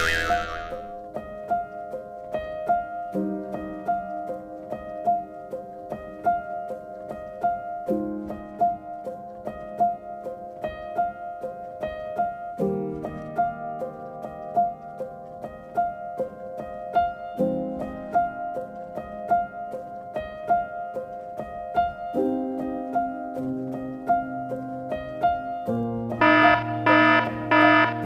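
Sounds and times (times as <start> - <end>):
piano melody over chords: 0.0 - 28.0.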